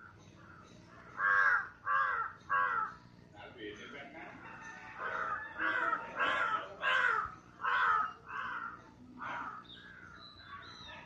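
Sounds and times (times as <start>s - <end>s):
crows cawing: 0.0s - 3.1s, 4.5s - 10.7s.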